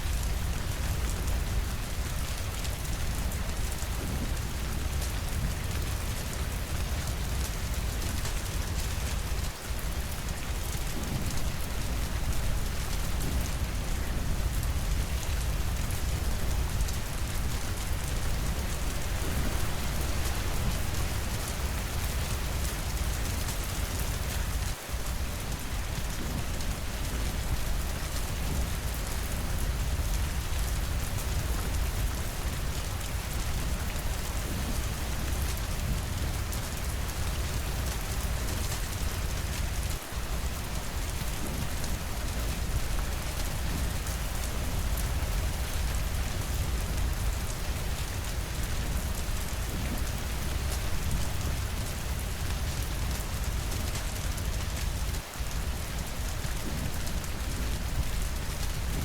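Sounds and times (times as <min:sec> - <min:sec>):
rain against windows: 0:00.0 - 0:59.0.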